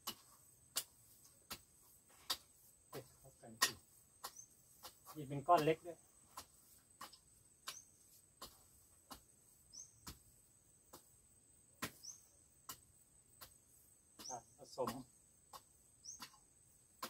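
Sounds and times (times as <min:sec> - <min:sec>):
hoe chopping into soil: 0:00.0 - 0:17.0.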